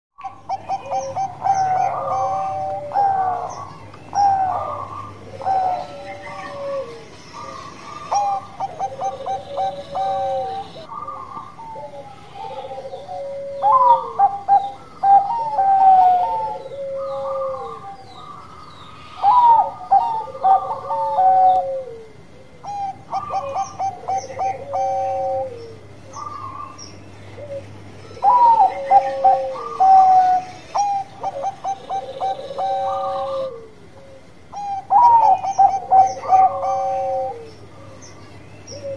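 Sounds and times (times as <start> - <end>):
dove cooing: 0.2 - 38.9
small birds chirping: 0.2 - 38.9.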